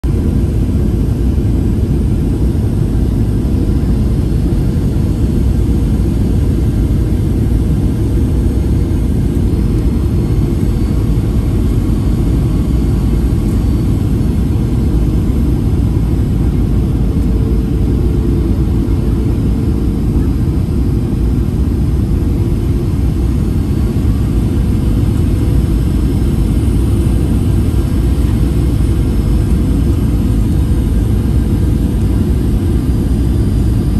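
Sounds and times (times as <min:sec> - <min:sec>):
jet engine hum: 0:00.0 - 0:33.9.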